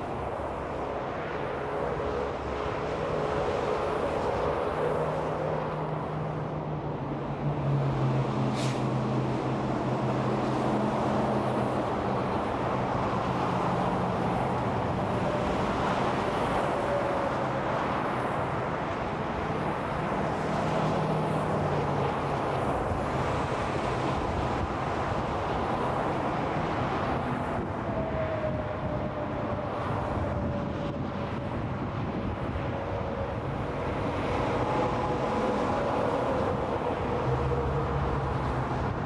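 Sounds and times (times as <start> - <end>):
freeway traffic rushing: 0.0 - 39.0
heavy vehicle engine drone: 0.0 - 39.0.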